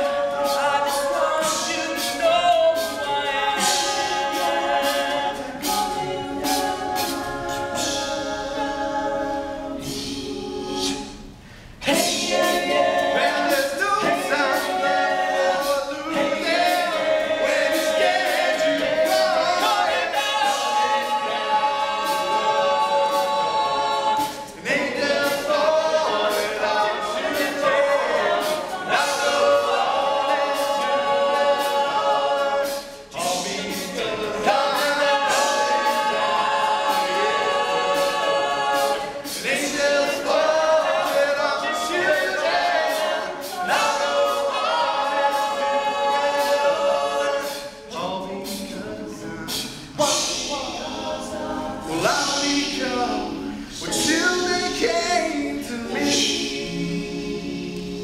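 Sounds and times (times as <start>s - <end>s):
male group singing a cappella: 0.0s - 58.0s.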